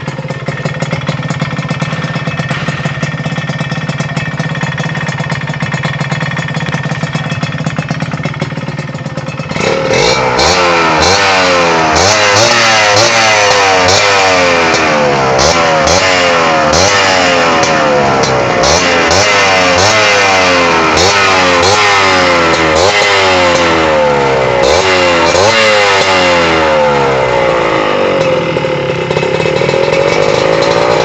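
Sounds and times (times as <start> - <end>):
motorcycle idling: 0.0 - 31.0
motorcycle throttle blips: 0.0 - 31.0.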